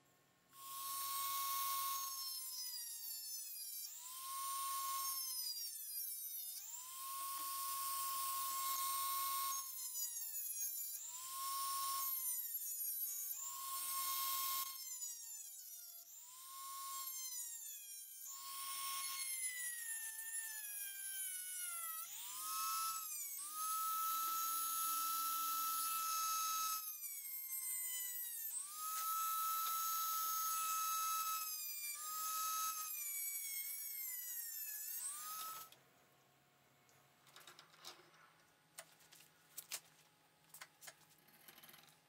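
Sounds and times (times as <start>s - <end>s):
rotary tool cutting metal: 0.6s - 35.8s, 40.5s - 42.0s.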